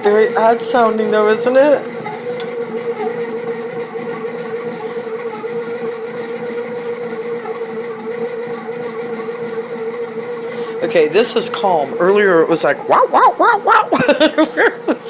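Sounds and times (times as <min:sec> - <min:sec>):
bread machine whining hum: 0:00.0 - 0:15.0.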